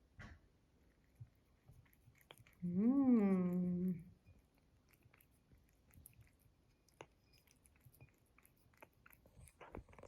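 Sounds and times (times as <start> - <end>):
faint chewing: 0.8 - 10.0.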